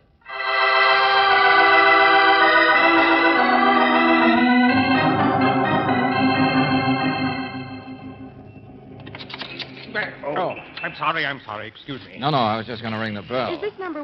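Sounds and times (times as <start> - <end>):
organ chords: 0.3 - 11.5.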